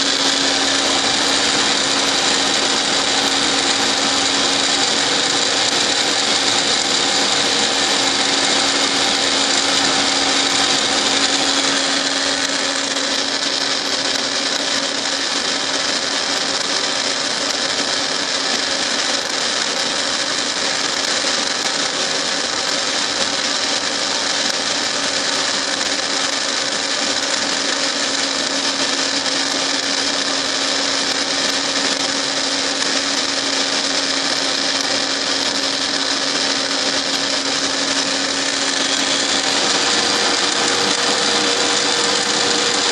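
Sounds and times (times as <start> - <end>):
milling machine whining: 0.0 - 42.9.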